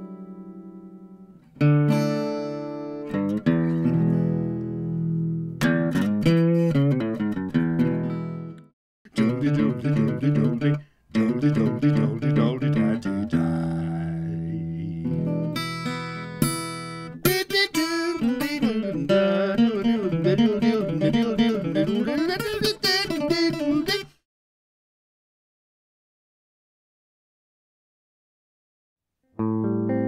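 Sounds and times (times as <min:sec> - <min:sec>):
acoustic guitar playing: 0:00.0 - 0:24.2, 0:29.4 - 0:30.0.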